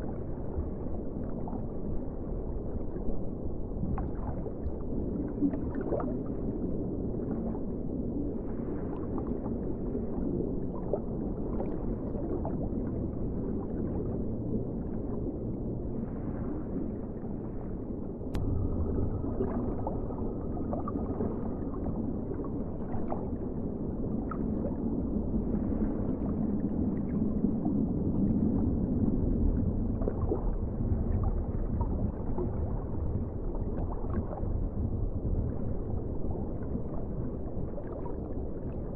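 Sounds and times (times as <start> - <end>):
underwater rumble with gurgles: 0.0 - 38.9.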